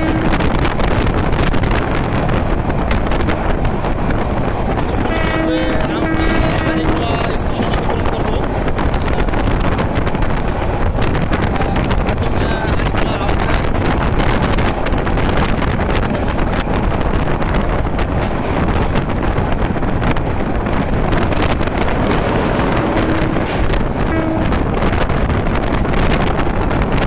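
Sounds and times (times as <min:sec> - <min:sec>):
train running on rails: 0:00.0 - 0:27.0
wind buffeting microphone: 0:00.0 - 0:27.0.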